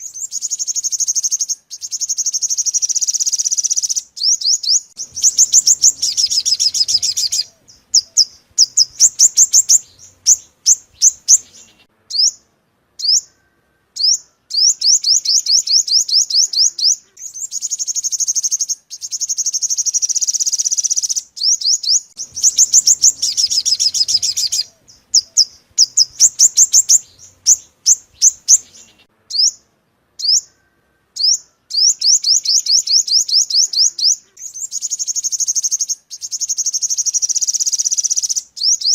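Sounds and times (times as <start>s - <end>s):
sunbird singing high trills: 0.0s - 38.9s.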